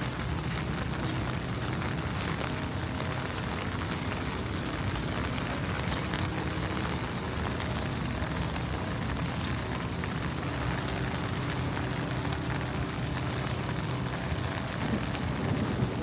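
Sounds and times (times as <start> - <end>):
rain patter: 0.0 - 16.0
low rumble: 0.2 - 16.0.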